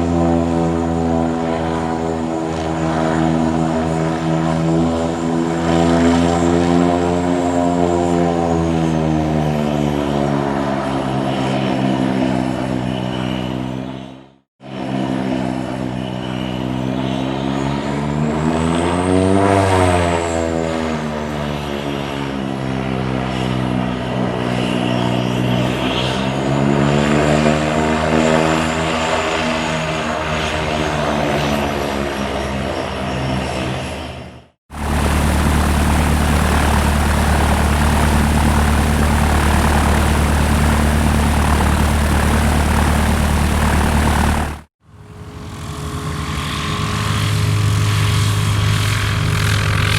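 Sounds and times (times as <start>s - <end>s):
propeller plane engine droning: 0.0s - 49.9s.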